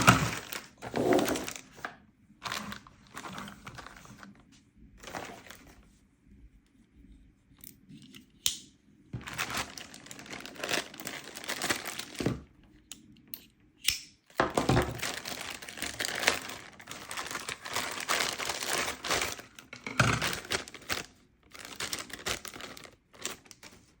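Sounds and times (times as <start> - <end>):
material crinkling and rustling: 0.0 - 7.4, 9.1 - 12.6, 14.5 - 24.0.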